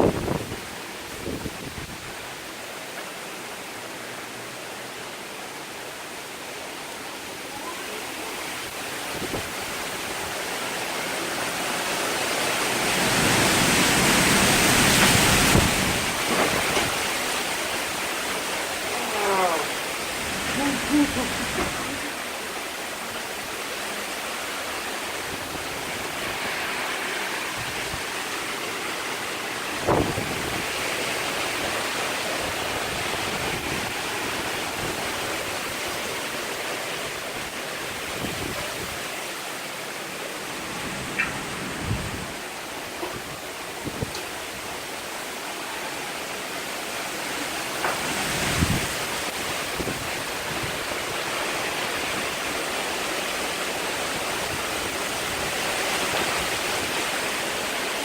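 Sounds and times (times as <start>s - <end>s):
heavy rain and wind: 0.0s - 58.0s.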